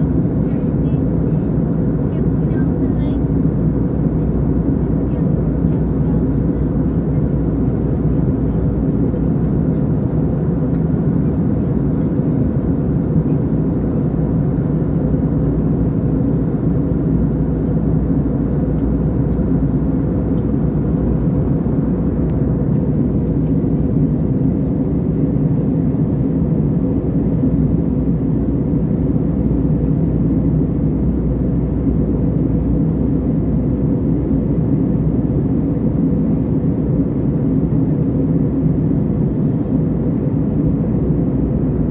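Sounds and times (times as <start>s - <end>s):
aeroplane cabin rumble: 0.0s - 41.9s.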